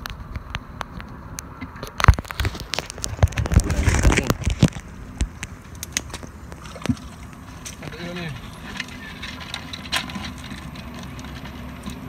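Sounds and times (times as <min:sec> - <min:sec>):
crabs clicking in plastic bucket: 0:01.8 - 0:12.0.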